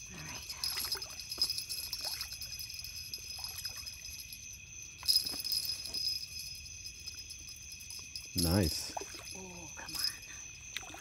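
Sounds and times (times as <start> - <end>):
night insect chorus trilling: 0.0 - 11.0.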